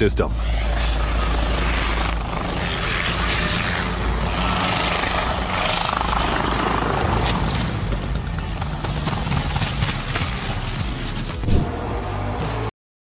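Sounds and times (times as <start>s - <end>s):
helicopter rotor and turbine: 0.0s - 11.8s.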